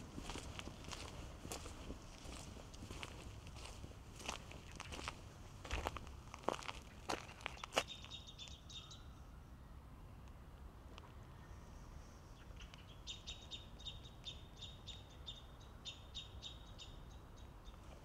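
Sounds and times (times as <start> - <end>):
songbird chirping: 0.0 - 10.4, 11.0 - 18.0.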